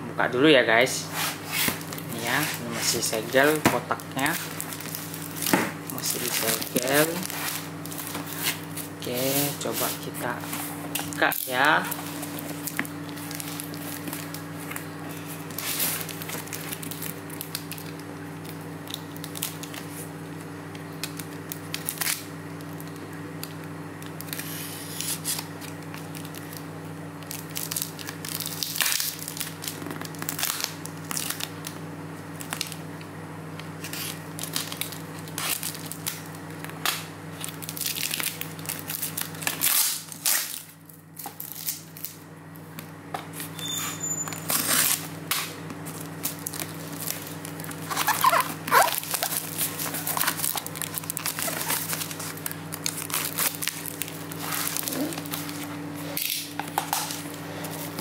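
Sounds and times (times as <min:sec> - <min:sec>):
steady low hum: 0:00.0 - 0:58.0
packing tape peeling and tearing: 0:01.1 - 0:09.8, 0:10.9 - 0:20.0, 0:20.7 - 0:26.6, 0:27.2 - 0:31.8, 0:33.6 - 0:42.2, 0:43.4 - 0:55.6, 0:56.2 - 0:58.0.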